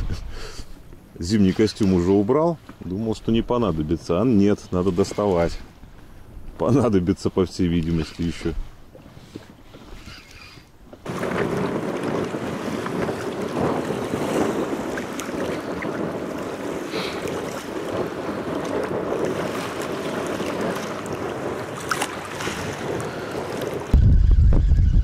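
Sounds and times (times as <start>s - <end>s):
choppy waves: 0.0s - 25.0s
wind buffeting microphone: 0.0s - 25.0s.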